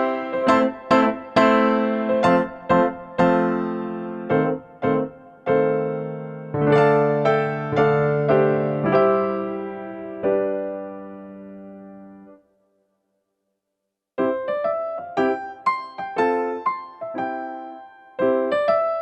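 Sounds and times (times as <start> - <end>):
electric piano melody: 0.0 - 12.4, 14.2 - 19.0.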